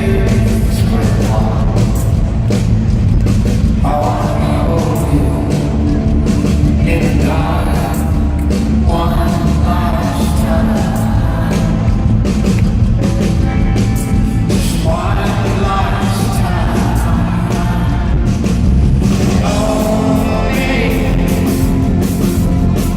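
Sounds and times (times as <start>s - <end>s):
person singing: 0.0s - 2.3s, 3.8s - 12.3s, 13.9s - 18.6s, 19.2s - 22.9s
live rock band playing: 0.0s - 22.9s.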